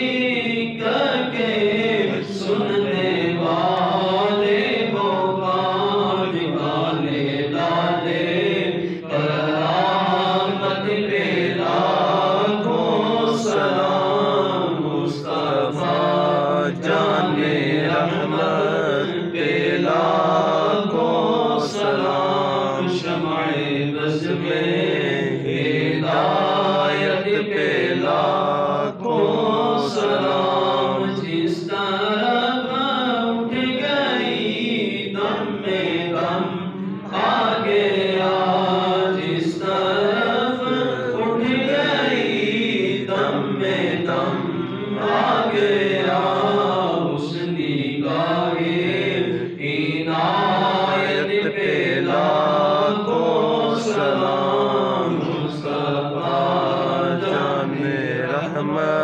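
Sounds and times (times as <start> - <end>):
man chanting melodically: 0.0 - 59.0.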